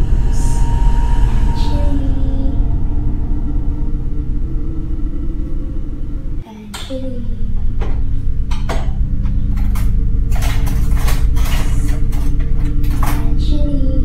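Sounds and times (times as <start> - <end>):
low rumbling drone with hum: 0.0 - 14.0.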